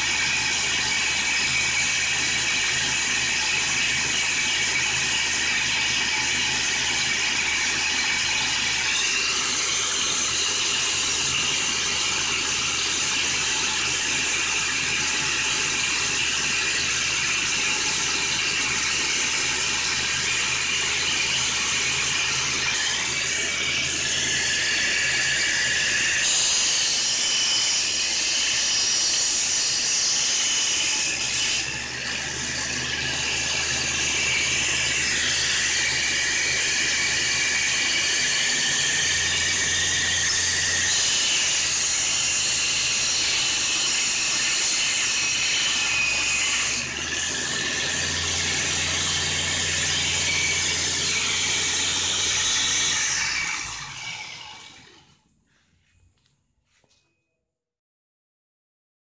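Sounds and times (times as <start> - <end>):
belt sander motor whine: 0.0 - 28.7, 30.1 - 55.2.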